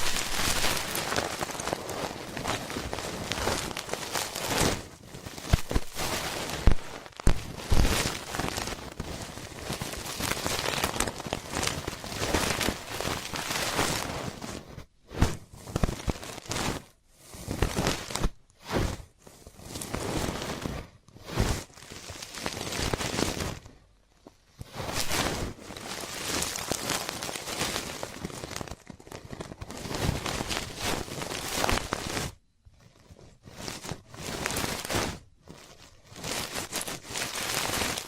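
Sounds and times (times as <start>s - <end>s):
ear pick scraping and rustling: 0.0s - 38.0s.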